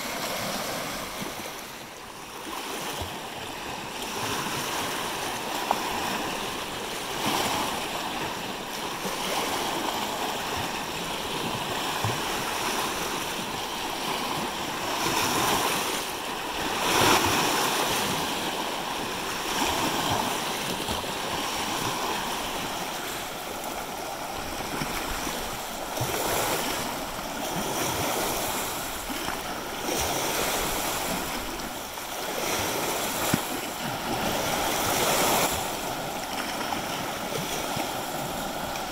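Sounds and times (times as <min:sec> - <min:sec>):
waves lapping on rock ledges: 0:00.0 - 0:38.9.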